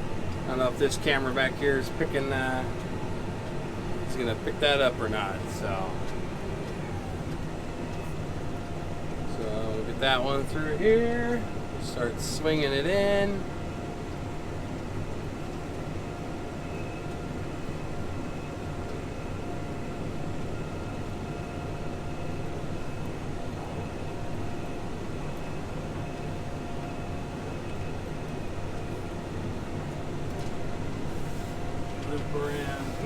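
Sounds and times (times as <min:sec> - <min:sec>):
faint steady whine: 0:00.0 - 0:33.0
tractor engine drone: 0:00.0 - 0:33.0.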